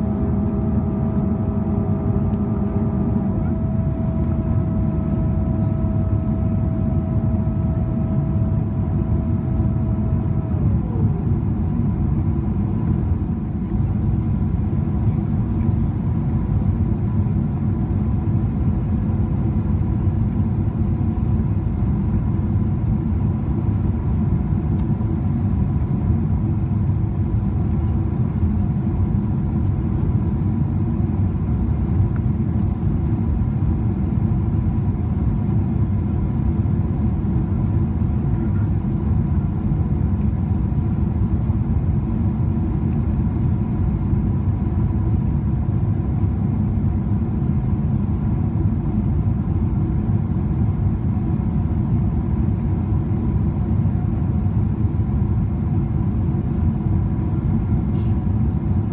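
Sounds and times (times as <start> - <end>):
airplane cabin roar: 0.0 - 58.9
faint steady whine: 0.0 - 58.9.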